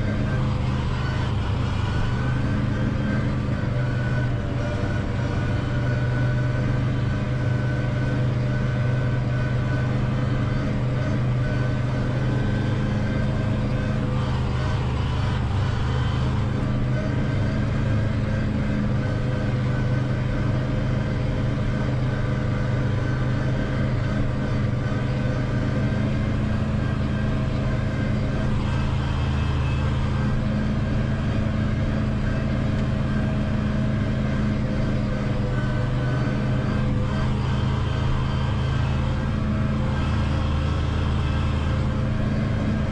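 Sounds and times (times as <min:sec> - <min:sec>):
tractor engine running steadily: 0:00.0 - 0:42.9.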